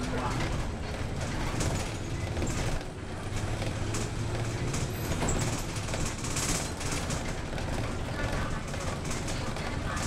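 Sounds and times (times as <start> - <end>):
bus engine drone: 0.0 - 10.0
road noise: 0.0 - 10.0.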